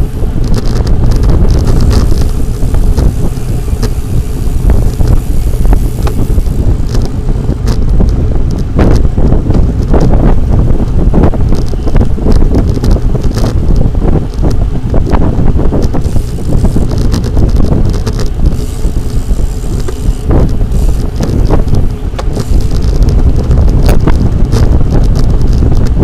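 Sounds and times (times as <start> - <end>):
bicycle knocks and rattles: 0.0 - 26.0
wind buffeting microphone: 0.0 - 26.0.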